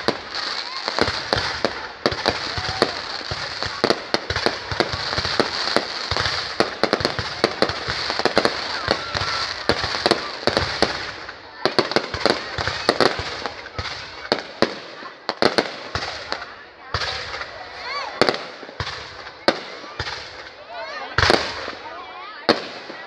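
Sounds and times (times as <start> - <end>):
firecrackers banging and popping: 0.0 - 23.0.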